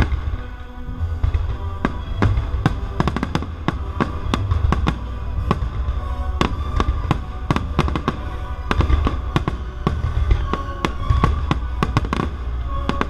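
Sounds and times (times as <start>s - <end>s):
deep rolling rumble: 0.0s - 13.0s
firework shells bursting: 0.0s - 13.0s
orchestral music: 0.0s - 13.0s.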